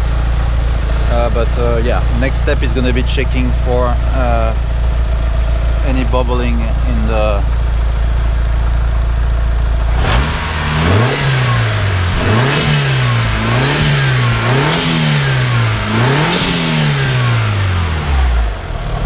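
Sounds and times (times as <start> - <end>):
car engine idling: 0.0 - 19.0
car engine revving: 0.0 - 19.0.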